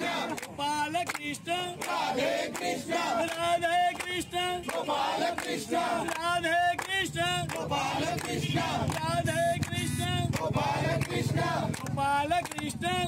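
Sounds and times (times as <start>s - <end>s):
men singing a devotional chant: 0.0s - 13.0s
hand clapping: 0.3s - 13.0s.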